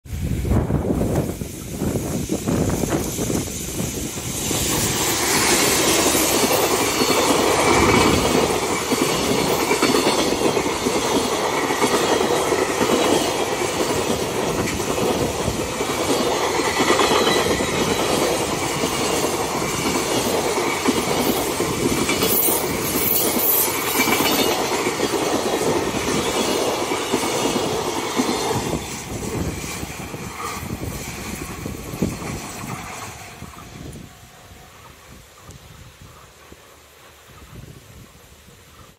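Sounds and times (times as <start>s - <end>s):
electric locomotive passing: 0.1s - 38.9s
wheels clattering on rails: 0.9s - 34.0s.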